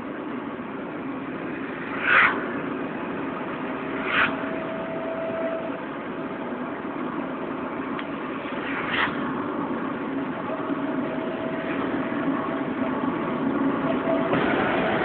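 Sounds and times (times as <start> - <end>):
van engine and road noise: 0.0 - 15.0
rush of air: 0.6 - 6.2, 7.1 - 13.7.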